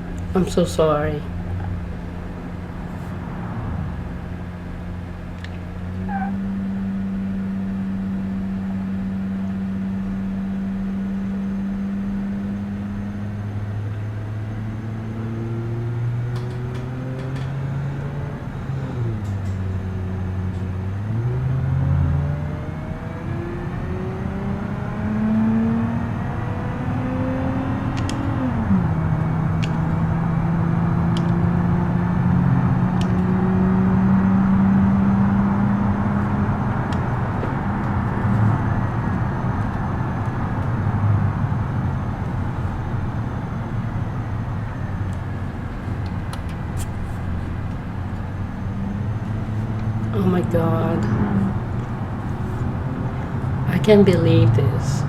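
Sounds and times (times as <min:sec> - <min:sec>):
minivan engine revving: 0:00.0 - 0:55.0.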